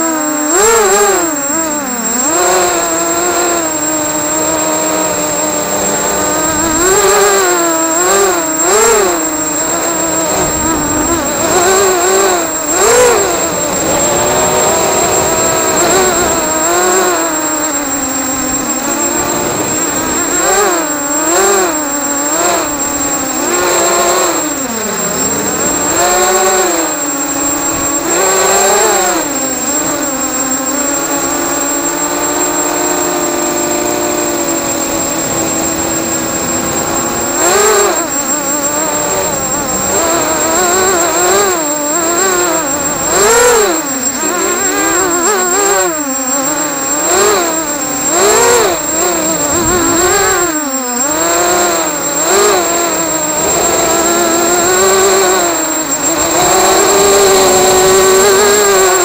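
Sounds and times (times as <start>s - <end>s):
quadcopter motors whining: 0.0s - 59.0s
steady high-pitched tone: 0.0s - 59.0s.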